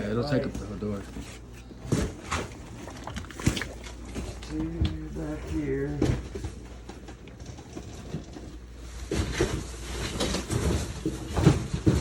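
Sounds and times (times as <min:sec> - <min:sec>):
rustling and knocks of clutter: 0:00.4 - 0:12.0.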